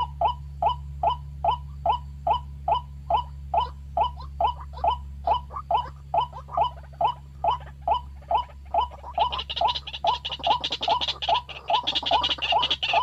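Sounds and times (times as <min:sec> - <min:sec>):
high-pitched bird chatter: 0:00.0 - 0:13.0
waterhen harsh kwak calls: 0:00.0 - 0:13.0.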